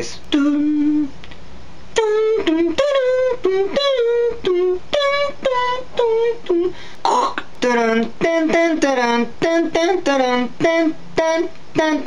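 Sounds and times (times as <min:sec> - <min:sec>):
man humming and singing a jingle: 0:00.0 - 0:01.2, 0:02.0 - 0:12.0.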